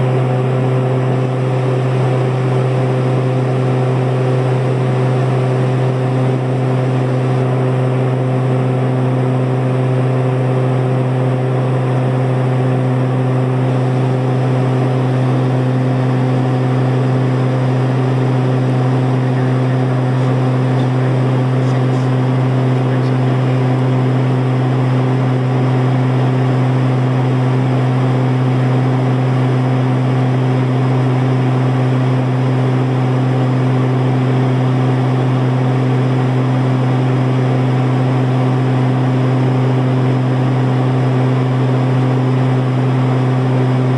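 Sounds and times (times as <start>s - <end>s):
turboprop cabin drone: 0.0s - 43.9s.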